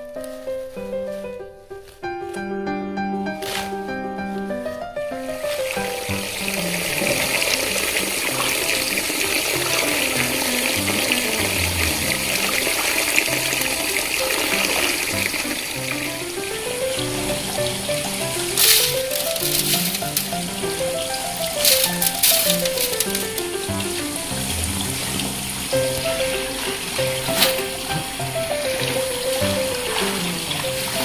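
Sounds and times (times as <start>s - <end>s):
background music: 2.2s - 31.0s
water splash: 5.5s - 16.3s, 16.9s - 31.0s
tap water running into sink: 5.5s - 31.0s.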